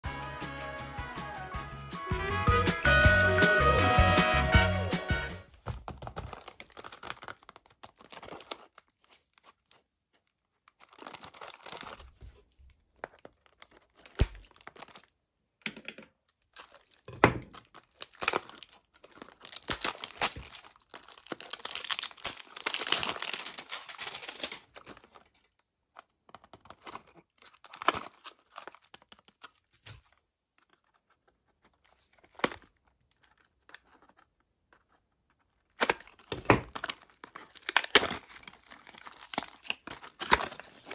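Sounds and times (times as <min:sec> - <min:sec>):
plastic wrap crinkling: 0:05.5 - 0:15.2, 0:16.4 - 0:40.9.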